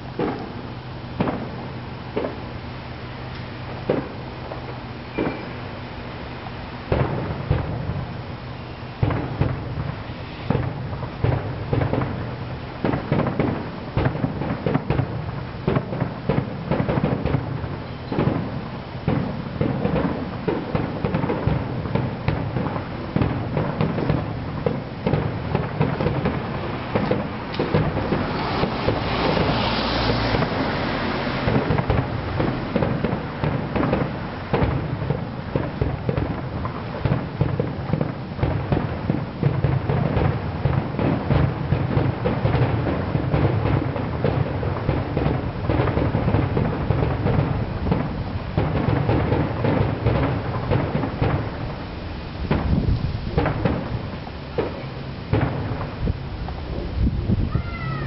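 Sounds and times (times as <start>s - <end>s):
fireworks banging: 0.0s - 58.0s.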